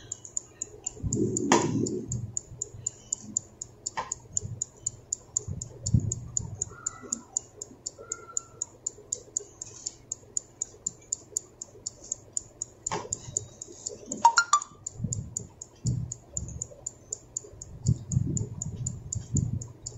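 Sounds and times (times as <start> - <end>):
fast timer ticking: 0.0 - 19.9.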